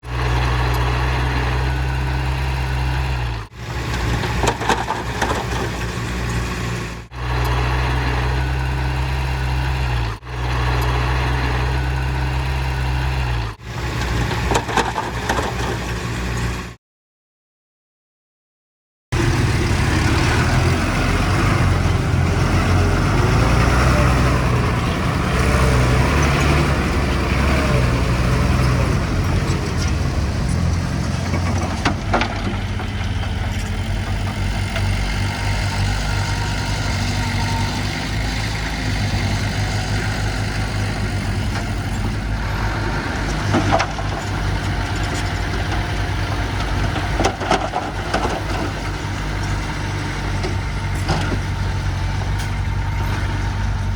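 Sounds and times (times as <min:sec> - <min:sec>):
heavy machinery diesel engine: 0:00.0 - 0:16.8, 0:19.1 - 0:53.9.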